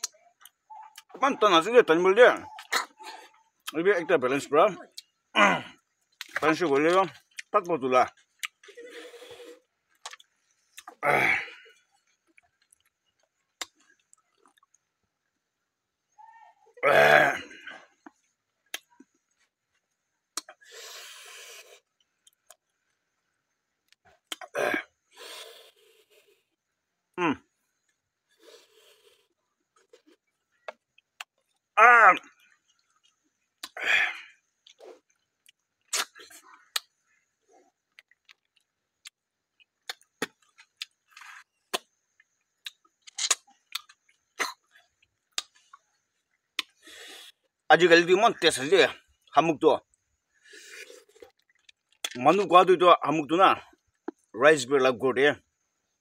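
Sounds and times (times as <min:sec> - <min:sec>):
sucking and eating noises: 0:04.9 - 0:47.7, 0:49.9 - 0:52.4.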